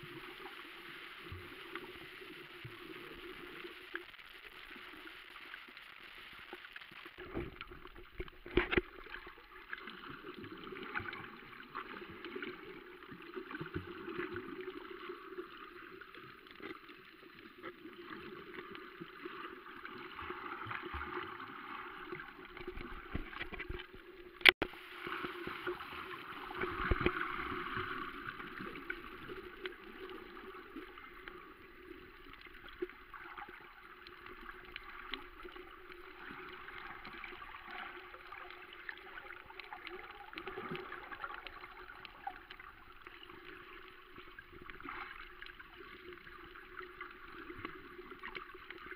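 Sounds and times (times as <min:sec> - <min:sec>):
underwater water sloshing: 0:00.0 - 0:48.9.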